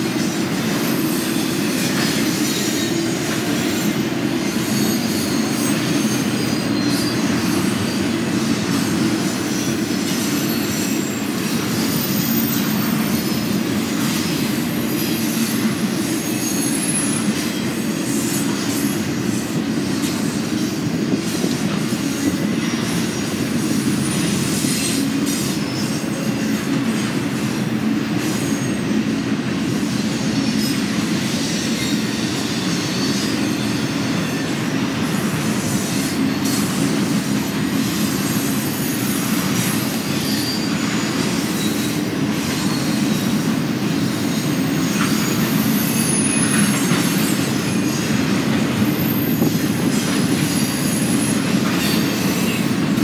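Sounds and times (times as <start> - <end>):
freight train wheels rumbling and rattling: 0.0 - 53.0.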